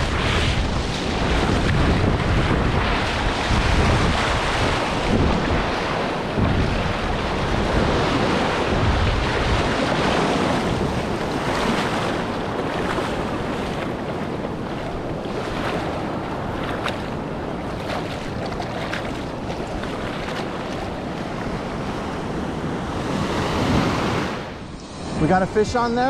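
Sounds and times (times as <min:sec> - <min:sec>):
small waves breaking on sand: 0:00.0 - 0:26.0
wind buffeting microphone: 0:00.0 - 0:26.0.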